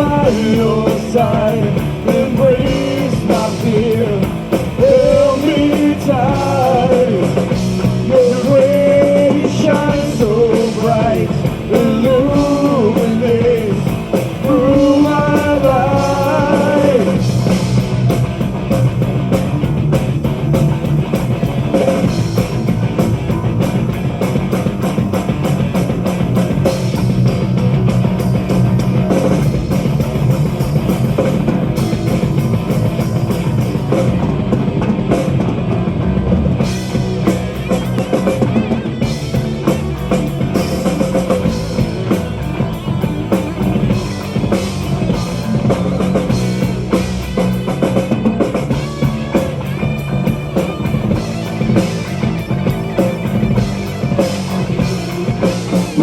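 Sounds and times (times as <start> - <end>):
bass guitar: 0.0 - 56.0
distorted guitars: 0.0 - 56.0
fast drum kit: 0.0 - 56.0.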